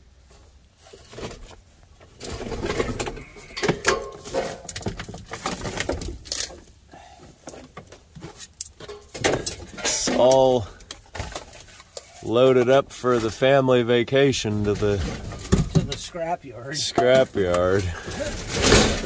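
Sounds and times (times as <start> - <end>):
scrap metal clanking and rattling: 0.9 - 6.8, 7.5 - 13.4, 14.4 - 19.0.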